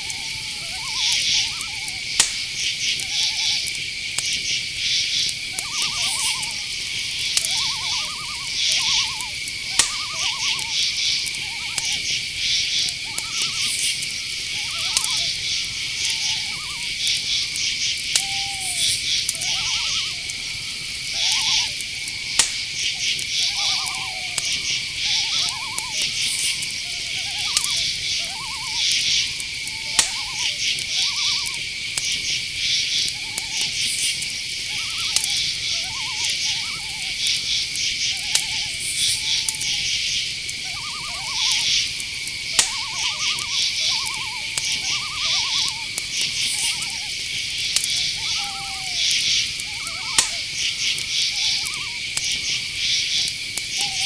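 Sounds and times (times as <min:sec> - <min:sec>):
crickets trilling: 0:00.0 - 0:54.0
pulsed insect calls: 0:00.0 - 0:54.0
sharp clicks: 0:01.1 - 0:04.4, 0:05.2 - 0:54.0.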